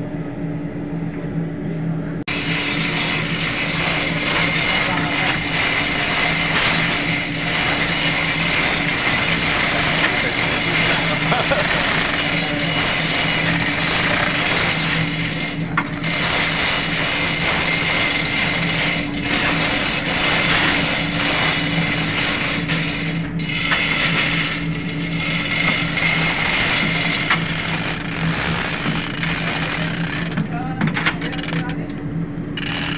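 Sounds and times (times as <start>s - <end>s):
machinery humming: 0.0s - 32.9s
chain hoist ratcheting: 2.3s - 30.5s, 31.1s - 31.8s, 32.6s - 32.9s.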